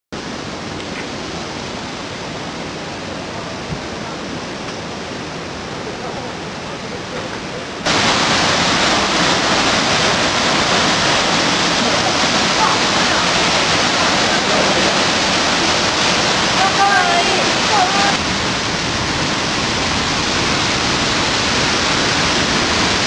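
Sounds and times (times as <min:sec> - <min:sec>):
waterfall rushing: 0:00.2 - 0:23.0.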